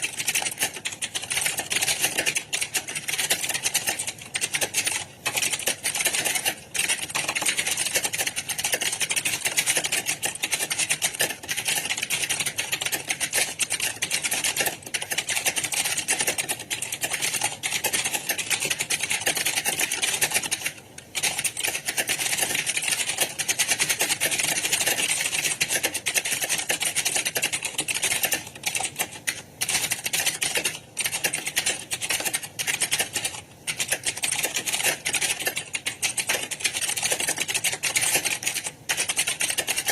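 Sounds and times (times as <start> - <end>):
fast typing on keyboards: 0.0 - 39.9.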